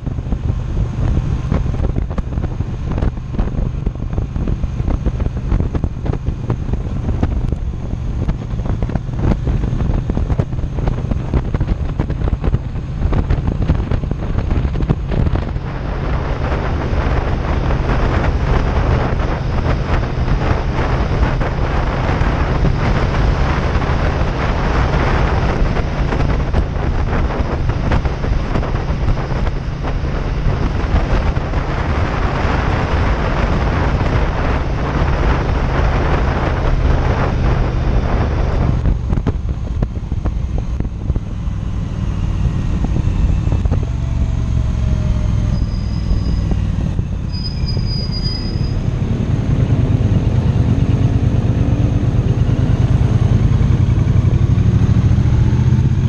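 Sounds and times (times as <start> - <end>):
motorcycle engine running: 0.0 - 47.1
wind rush on microphone: 0.0 - 56.0.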